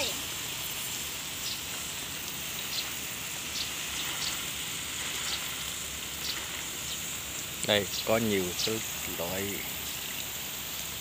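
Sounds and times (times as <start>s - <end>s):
water spraying onto plants: 0.0s - 11.0s.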